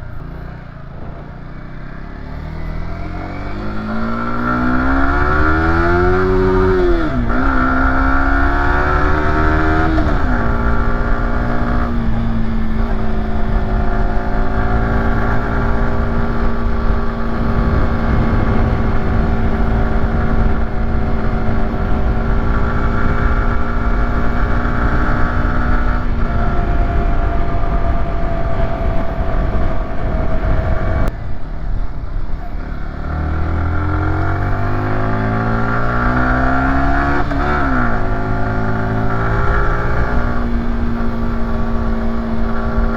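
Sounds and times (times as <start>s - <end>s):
motorcycle engine pulling uphill: 0.0s - 42.9s.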